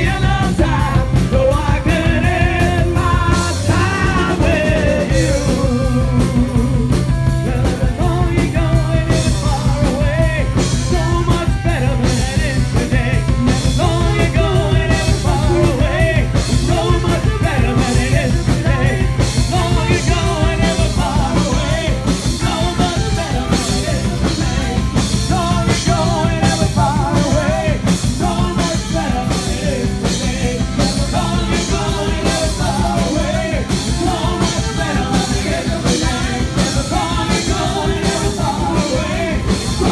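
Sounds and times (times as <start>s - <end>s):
drum beat: 0.0s - 39.9s
live rock band playing: 0.0s - 39.9s.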